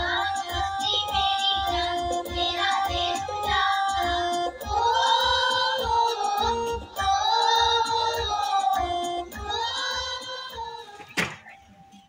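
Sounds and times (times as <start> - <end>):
children's choir singing: 0.0 - 11.6
low beat: 0.0 - 11.6.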